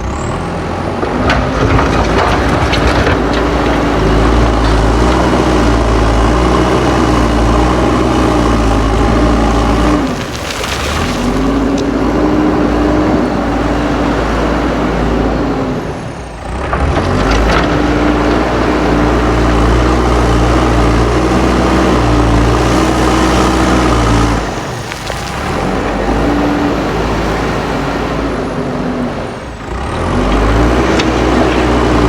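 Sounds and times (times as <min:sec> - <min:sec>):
diesel engine running hard: 0:00.0 - 0:32.0.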